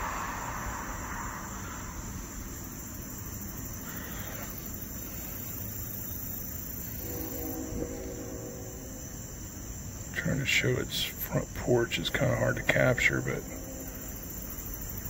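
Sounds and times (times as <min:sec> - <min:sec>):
crickets chirping: 0:00.0 - 0:15.0
passing traffic: 0:00.0 - 0:15.0.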